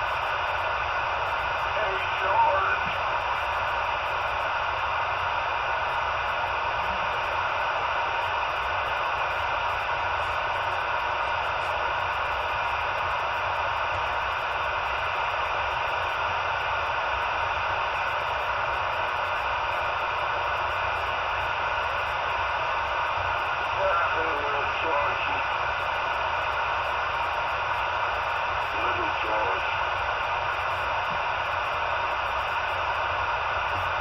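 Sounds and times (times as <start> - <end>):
faint hum: 0.0 - 34.0
radio static hiss: 0.0 - 34.0.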